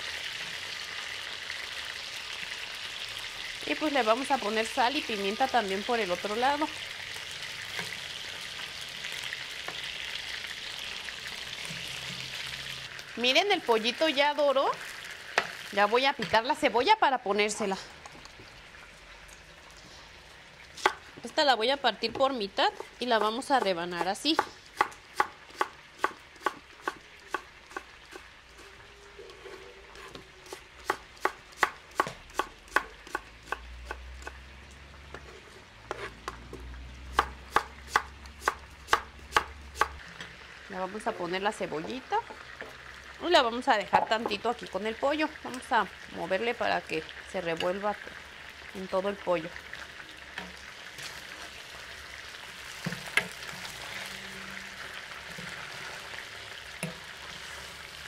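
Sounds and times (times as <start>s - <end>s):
chicken and onion sizzling in oil: 0.0s - 58.0s.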